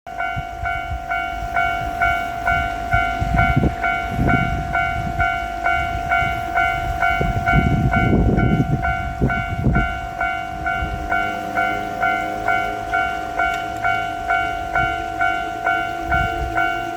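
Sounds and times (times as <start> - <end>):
level crossing bell dinging: 0.1 - 16.9
train wheels clacking: 0.2 - 16.9.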